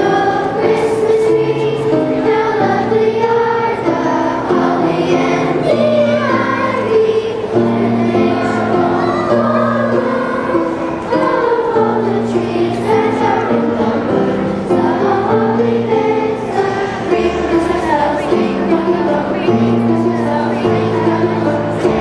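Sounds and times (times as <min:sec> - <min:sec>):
children's chorus singing: 0:00.0 - 0:22.0
low held accompaniment notes: 0:00.0 - 0:22.0.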